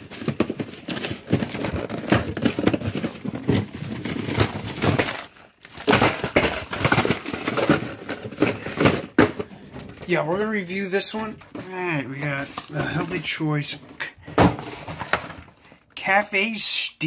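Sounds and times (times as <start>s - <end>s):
frozen packages shuffling in freezer: 0.0s - 15.7s.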